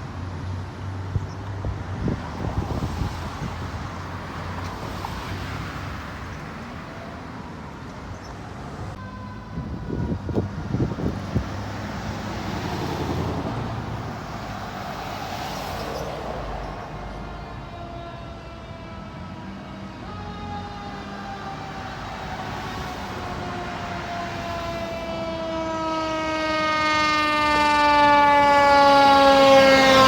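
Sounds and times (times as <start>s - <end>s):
vehicles passing on road: 0.0s - 30.0s.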